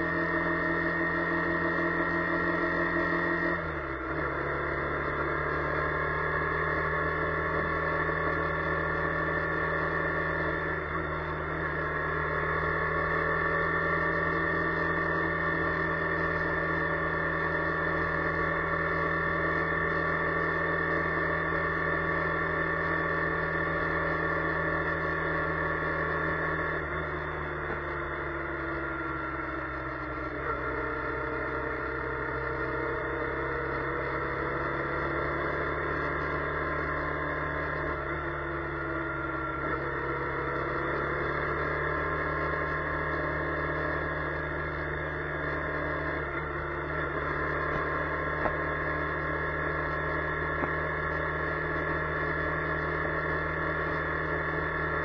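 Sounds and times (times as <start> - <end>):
car interior drone: 0.0 - 55.0.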